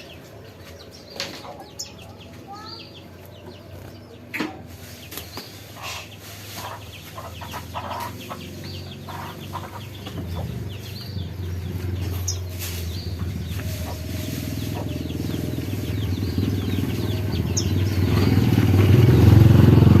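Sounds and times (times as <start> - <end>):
motorcycle engine approaching: 0.0 - 5.0, 6.5 - 20.0
chickens clucking: 0.0 - 19.9
small birds twittering: 0.0 - 20.0.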